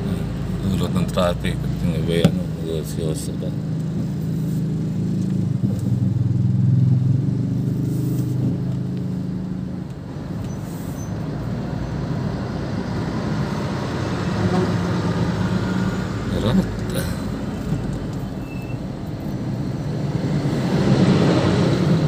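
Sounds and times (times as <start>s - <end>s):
bus diesel engine rumbling: 0.0s - 22.0s
traffic and road noise: 0.0s - 22.0s.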